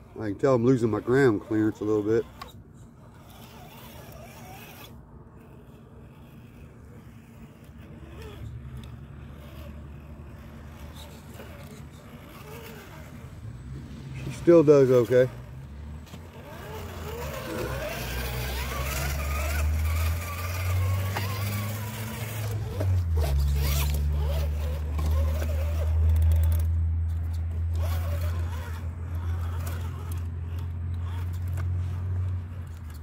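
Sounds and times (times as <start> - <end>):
electric motor and gear whine: 0.0 - 33.0.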